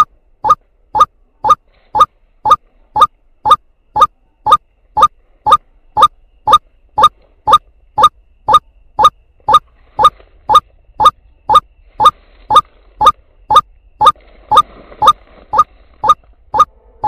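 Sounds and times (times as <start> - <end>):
waterhen calling: 0.0 - 16.8.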